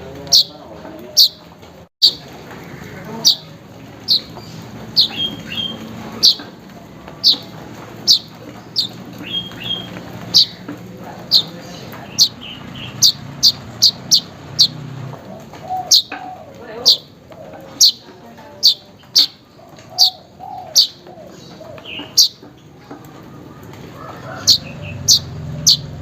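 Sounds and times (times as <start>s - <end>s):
weaver bird calling: 0.3s - 2.2s, 3.1s - 6.6s, 7.2s - 10.6s, 11.2s - 14.8s, 15.4s - 22.4s, 24.0s - 26.0s.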